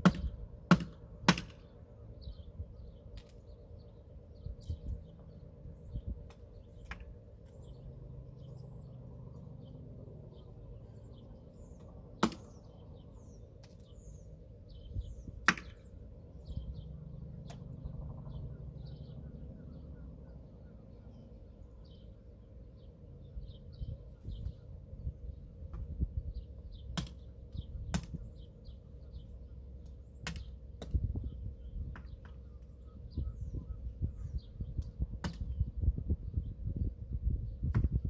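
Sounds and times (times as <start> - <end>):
low rumble of handling noise: 0.0 - 38.0
small birds chirping: 0.0 - 38.0.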